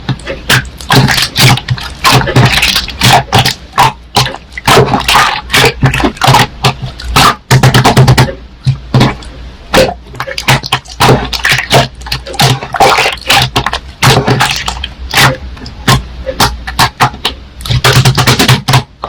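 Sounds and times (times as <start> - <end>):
slime squelching and popping: 0.0 - 19.0.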